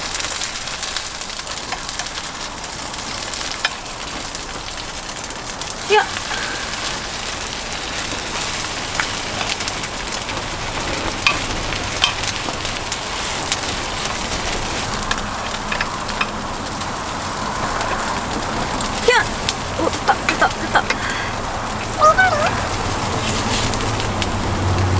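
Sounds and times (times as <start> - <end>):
batter sizzling in hot oil: 0.0 - 24.9.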